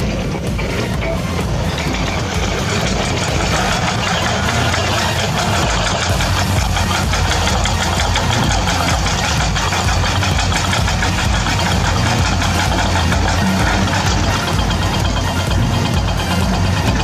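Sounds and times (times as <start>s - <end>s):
toy excavator motor whir: 0.0s - 17.0s.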